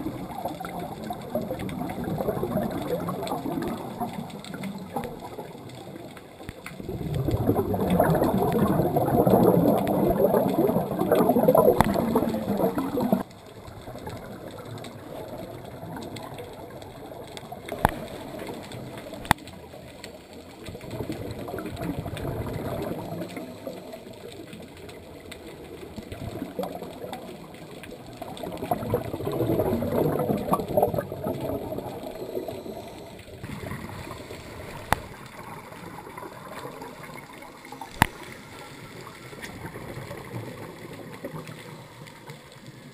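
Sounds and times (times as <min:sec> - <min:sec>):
regulator bubbles rushing: 0:00.0 - 0:42.9
underwater water noise: 0:00.0 - 0:42.9.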